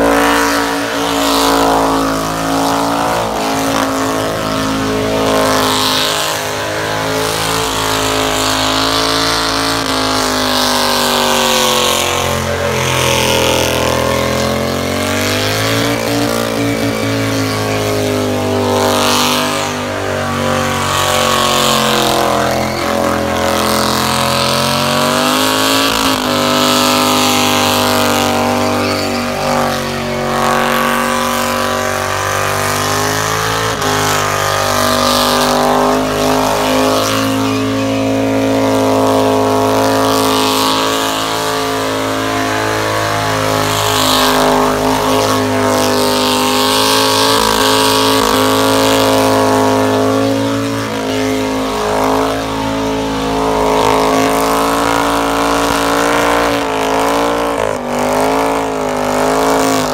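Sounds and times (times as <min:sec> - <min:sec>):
car engine revving high: 0:00.0 - 0:59.9.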